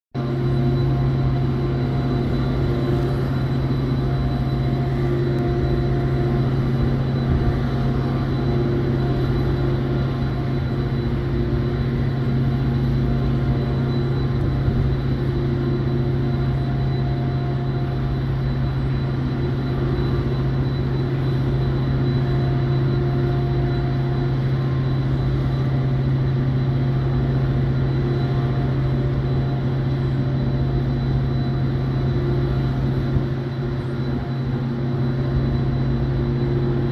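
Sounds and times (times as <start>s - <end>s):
diesel locomotive engine drone: 0.1s - 36.9s.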